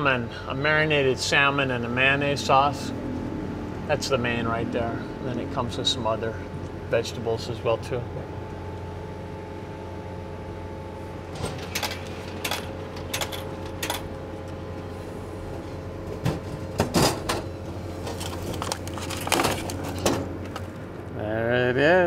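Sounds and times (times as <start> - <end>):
vending machine hum: 0.0 - 22.0.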